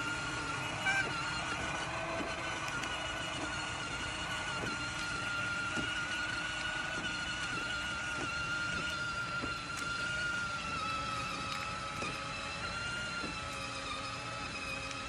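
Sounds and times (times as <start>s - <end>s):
electric motor whining: 0.0s - 15.0s
plastic wheels rolling on concrete: 0.0s - 15.0s.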